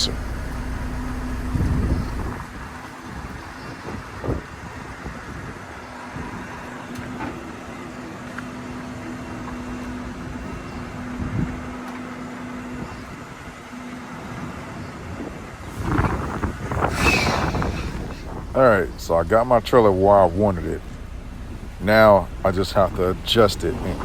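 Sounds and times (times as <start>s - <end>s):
noisy rush: 0.0s - 24.0s
truck diesel engine running: 0.0s - 24.0s.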